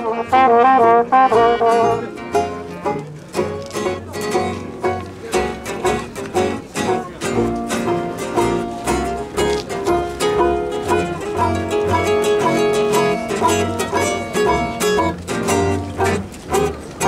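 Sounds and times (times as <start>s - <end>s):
low bass notes: 0.0s - 17.0s
plucked string music: 0.0s - 17.0s.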